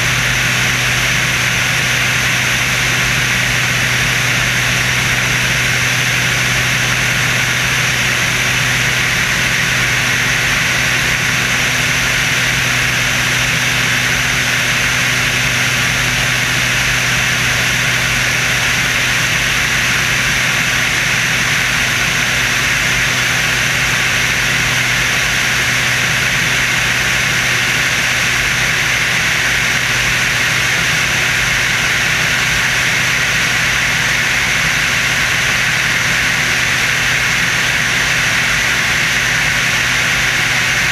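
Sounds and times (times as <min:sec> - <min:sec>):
biplane engine drone: 0:00.0 - 0:40.9.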